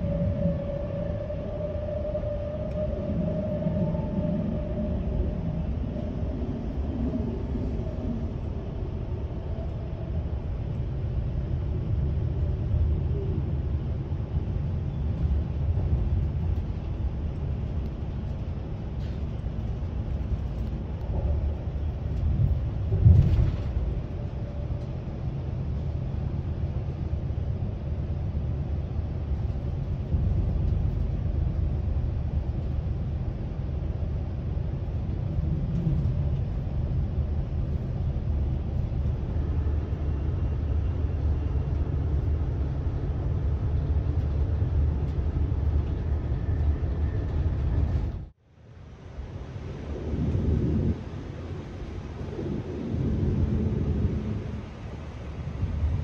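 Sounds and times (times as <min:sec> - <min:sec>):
train coach rumble from inside: 0:00.0 - 0:56.0.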